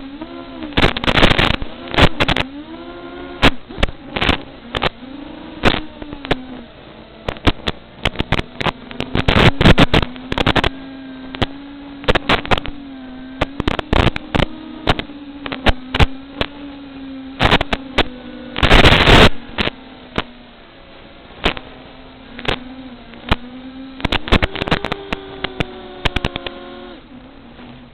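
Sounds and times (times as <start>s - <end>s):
sharp crackles and pops: 0.0s - 20.4s, 21.3s - 27.8s
drone motors humming: 0.0s - 27.9s.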